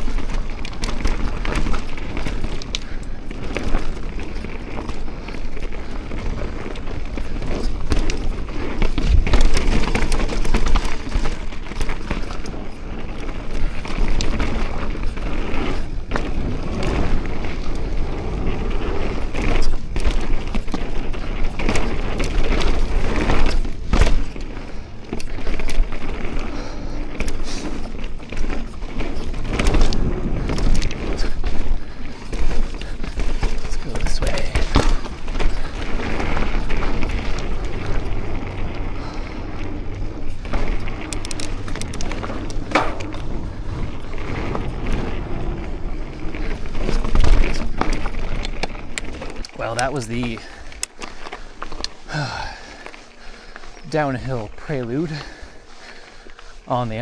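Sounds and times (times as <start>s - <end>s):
bike rattling and clicking: 0.0s - 57.0s.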